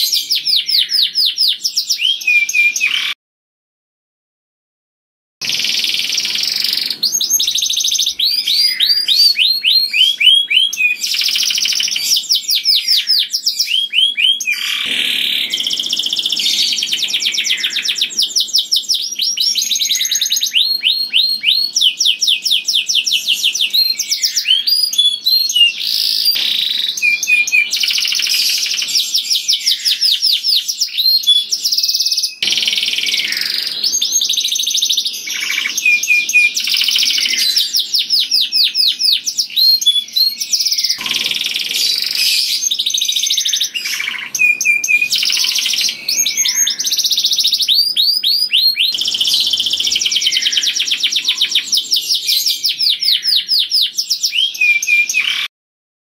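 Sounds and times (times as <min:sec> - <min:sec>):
canary singing trills: 0:00.0 - 0:03.2, 0:05.4 - 0:55.5.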